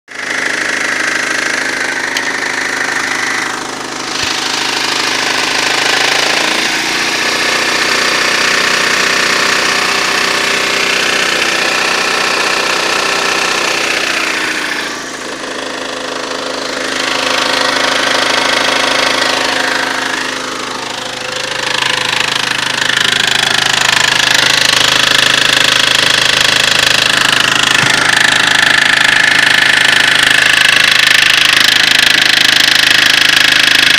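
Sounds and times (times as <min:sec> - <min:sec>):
petrol engine running with knock: 0:00.1 - 0:33.9.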